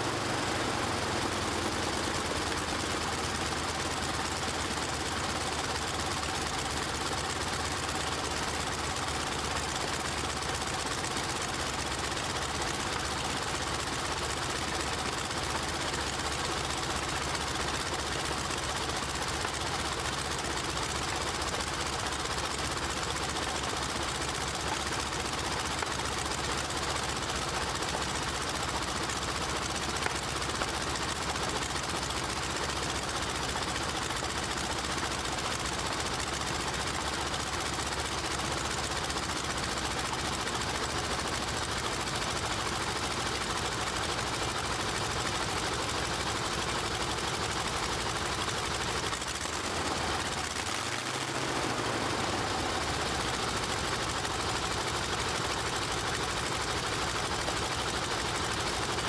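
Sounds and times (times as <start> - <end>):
aircraft engine idling: 0.0 - 59.0.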